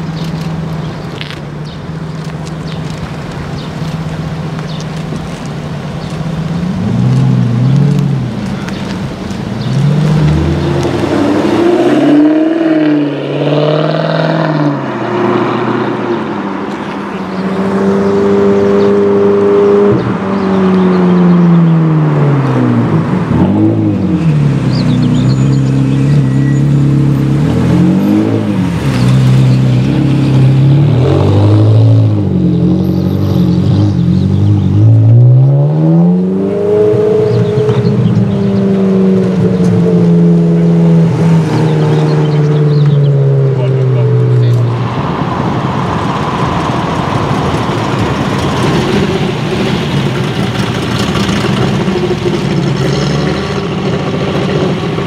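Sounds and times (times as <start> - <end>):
road and exhaust noise: 0.0 - 55.0
sports car engines revving: 0.0 - 55.0.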